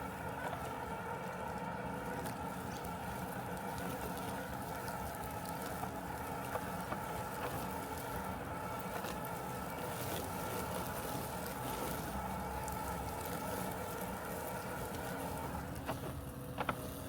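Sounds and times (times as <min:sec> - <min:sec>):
robotic lawn mower humming: 0:00.0 - 0:17.0.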